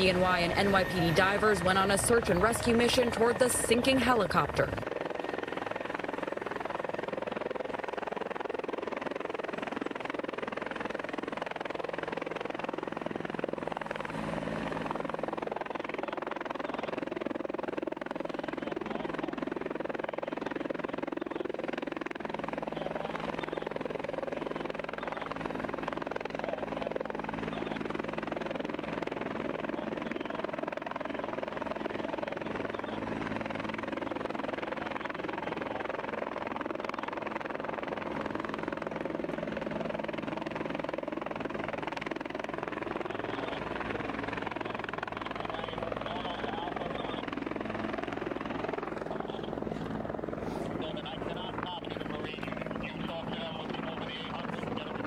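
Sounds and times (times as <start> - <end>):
helicopter rotor and engine drone: 0.0 - 55.0.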